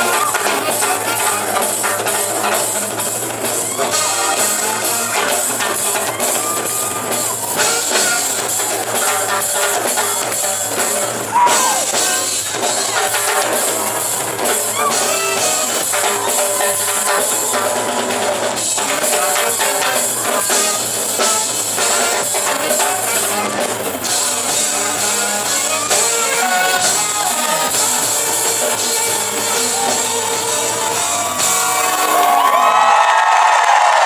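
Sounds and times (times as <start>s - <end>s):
drum kit and percussion: 0.0s - 34.0s
live funk-pop band: 0.0s - 34.0s.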